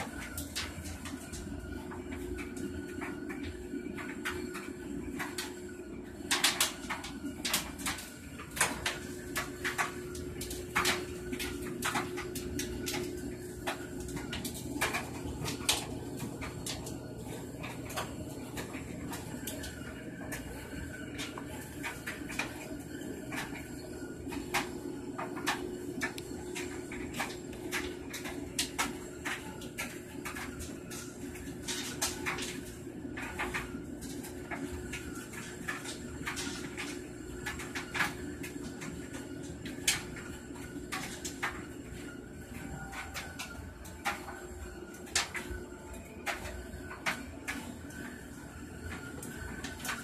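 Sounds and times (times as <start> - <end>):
aquarium pump humming: 0.0 - 50.0.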